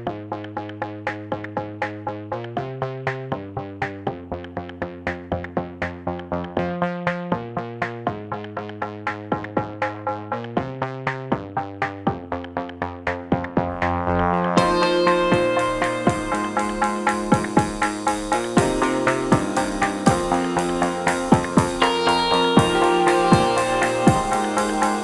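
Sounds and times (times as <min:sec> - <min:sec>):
synthesized plucked notes: 0:00.0 - 0:25.0.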